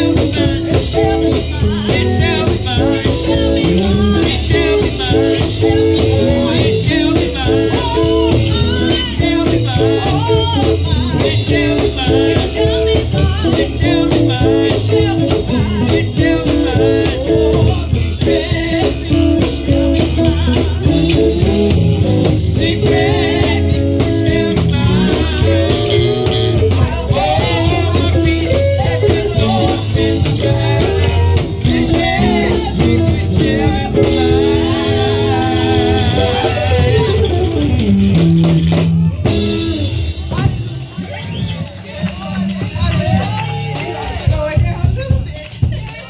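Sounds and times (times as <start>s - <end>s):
electric guitar: 0.0s - 44.4s
electric bass guitar: 0.0s - 46.0s.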